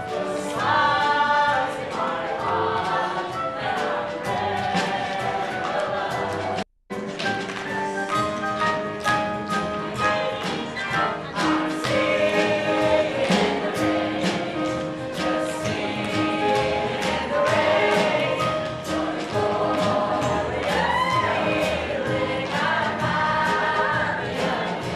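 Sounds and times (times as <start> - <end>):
voices singing together: 0.0 - 6.6, 9.4 - 24.9
instrumental accompaniment: 0.0 - 24.9.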